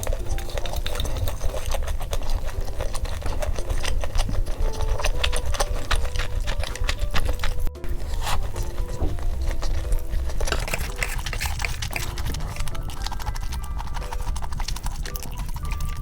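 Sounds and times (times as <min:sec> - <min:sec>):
chewing crispy fried chicken: 0:00.0 - 0:16.0
light cute background music: 0:00.0 - 0:16.0.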